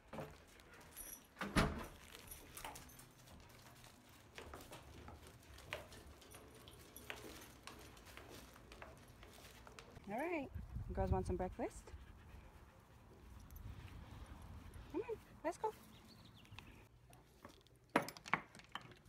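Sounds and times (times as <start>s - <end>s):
leash clips and tags jingling: 0.0s - 12.3s, 13.0s - 19.0s.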